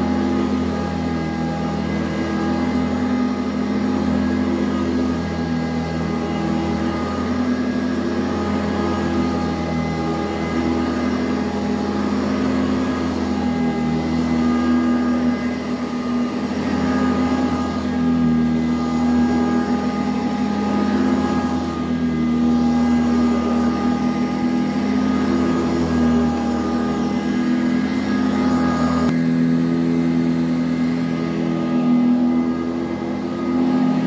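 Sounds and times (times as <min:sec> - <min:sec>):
vacuum cleaner running on carpet: 0:00.0 - 0:34.0.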